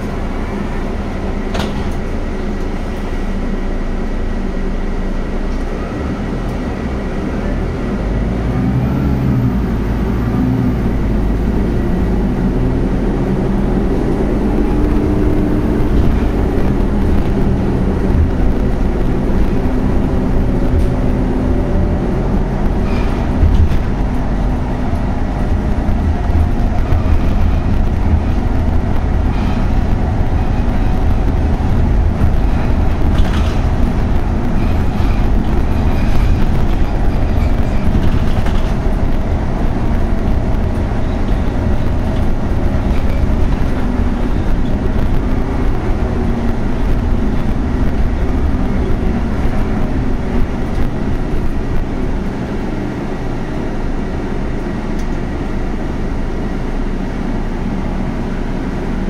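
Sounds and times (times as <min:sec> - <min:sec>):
bus engine accelerating: 0:00.0 - 0:59.0.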